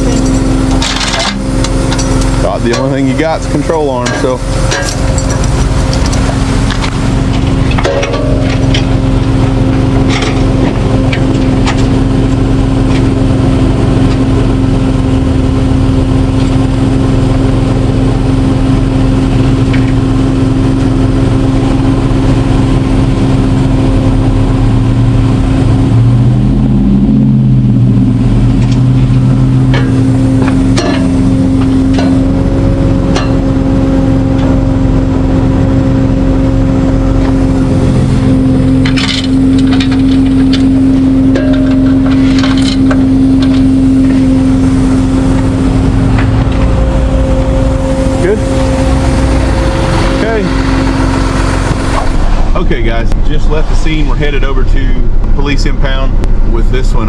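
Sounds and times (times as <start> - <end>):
low wavering tone: 0.0 - 57.0
truck engine whining: 0.0 - 57.0.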